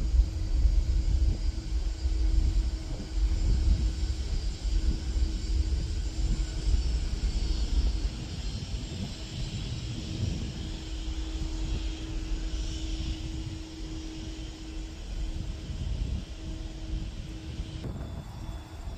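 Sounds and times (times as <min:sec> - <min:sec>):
jet engines at takeoff: 0:00.0 - 0:18.9.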